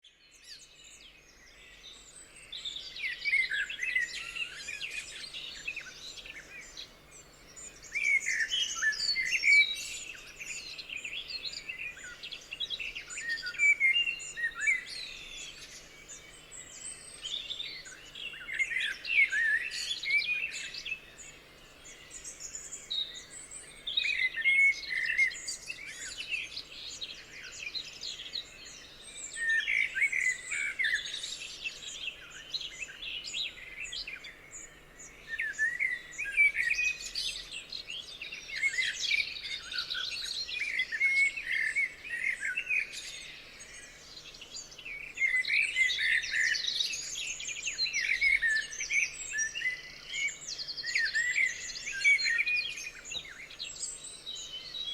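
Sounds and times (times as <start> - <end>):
birdsong chirps and warbles: 0.0 - 54.9.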